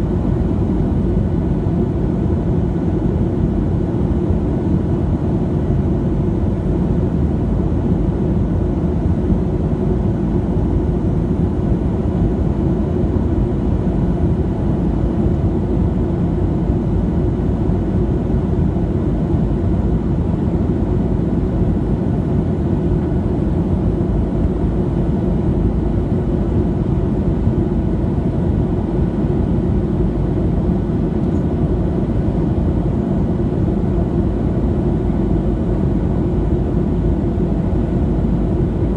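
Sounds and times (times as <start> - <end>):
airplane cabin engine roar: 0.0 - 38.9.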